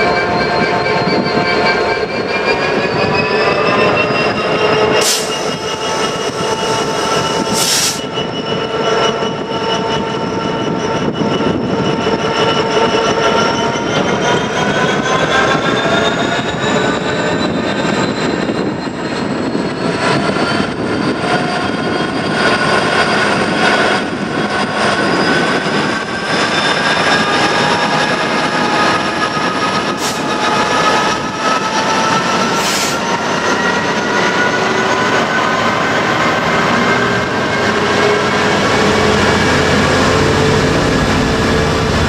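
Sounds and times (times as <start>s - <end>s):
diesel locomotive pulling away: 0.0s - 42.0s.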